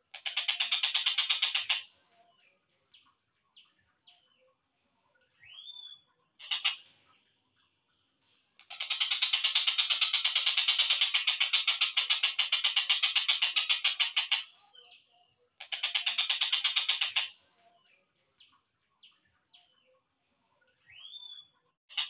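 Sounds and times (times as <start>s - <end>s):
bird chirps: 0.2s - 6.8s, 8.6s - 20.0s, 20.6s - 22.0s.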